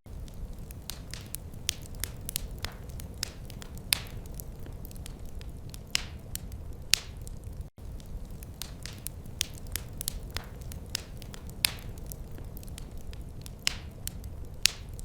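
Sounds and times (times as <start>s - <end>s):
low fire rumble: 0.1s - 15.0s
wood fire crackling and popping: 0.1s - 15.0s.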